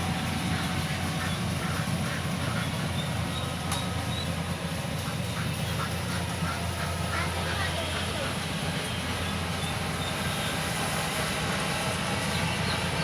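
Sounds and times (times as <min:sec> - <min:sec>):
harvester engine running: 0:00.0 - 0:13.0.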